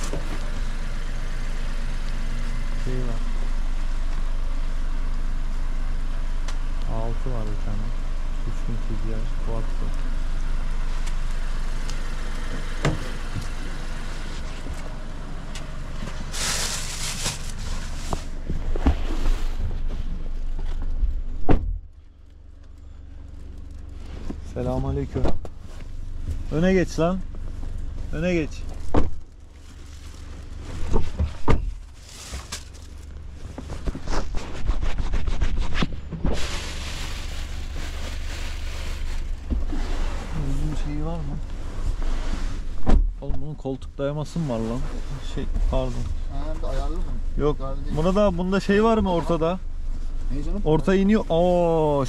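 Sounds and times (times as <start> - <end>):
low engine hum: 0.0 - 52.0.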